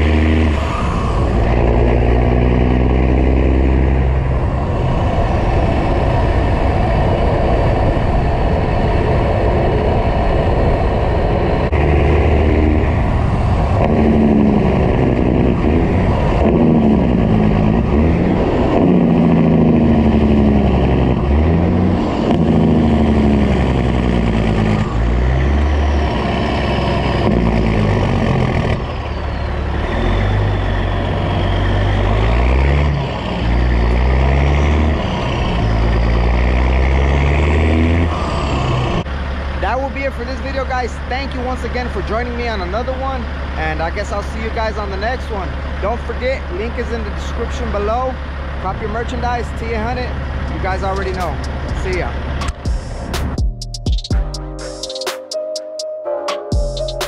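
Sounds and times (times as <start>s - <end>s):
truck diesel engine running: 0.0s - 53.8s.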